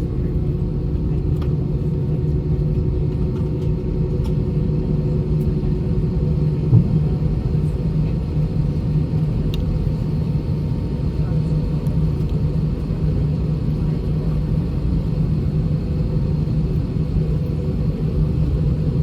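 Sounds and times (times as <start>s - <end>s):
jet engines low rumble: 0.0s - 19.0s
steady cabin hum: 0.0s - 19.0s.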